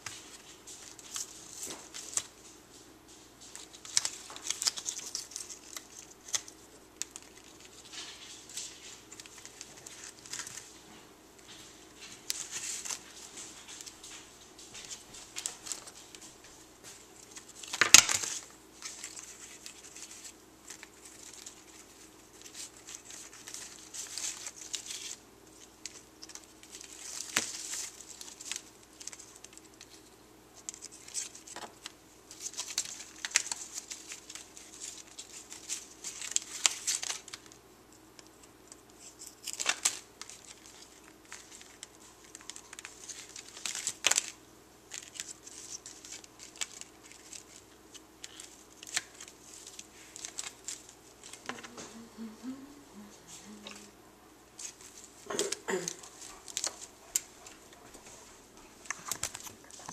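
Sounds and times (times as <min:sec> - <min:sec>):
playing cards rustling: 0:00.0 - 0:52.1, 0:53.3 - 0:59.9.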